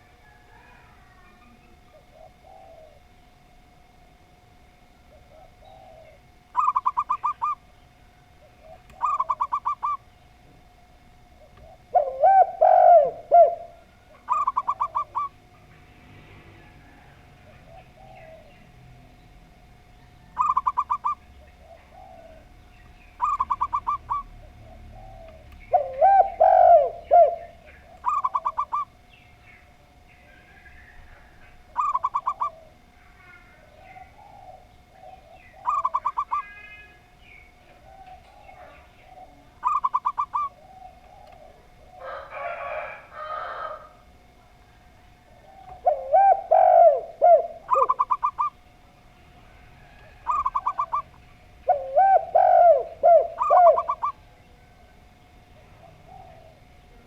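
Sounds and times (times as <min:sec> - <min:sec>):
dove stuttering coos: 0:00.0 - 0:03.2, 0:05.1 - 0:10.2, 0:11.2 - 0:19.0, 0:19.8 - 0:56.9
dove low multi-note coo: 0:00.0 - 0:57.0.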